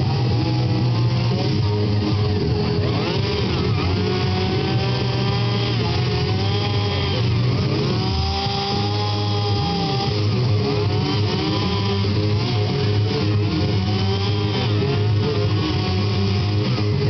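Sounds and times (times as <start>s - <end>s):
chainsaw carving wood: 0.0s - 17.0s.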